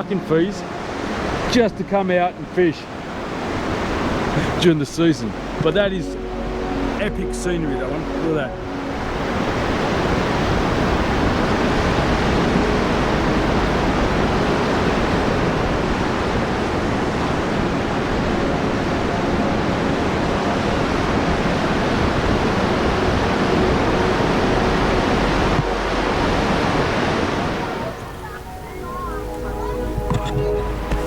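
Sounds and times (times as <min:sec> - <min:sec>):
ocean surf: 0:00.0 - 0:31.0
wind: 0:00.0 - 0:31.0.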